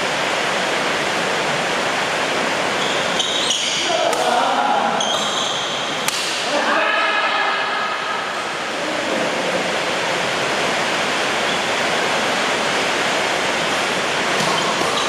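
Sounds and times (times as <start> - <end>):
heavy rain pouring: 0.0 - 5.0, 5.7 - 15.0.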